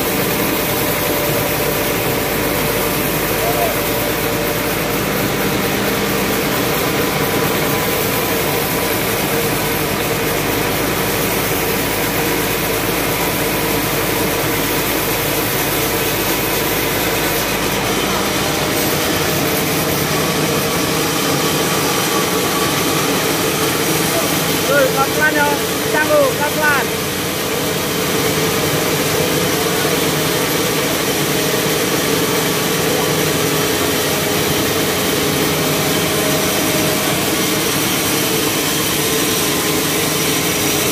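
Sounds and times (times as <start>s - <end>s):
band saw cutting log: 0.0s - 40.9s.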